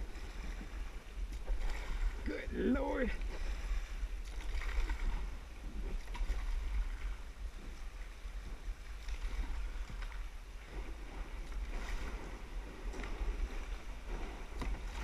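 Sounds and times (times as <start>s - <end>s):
steady low rumble: 0.0s - 15.0s
water splashing around kayak: 0.0s - 15.0s.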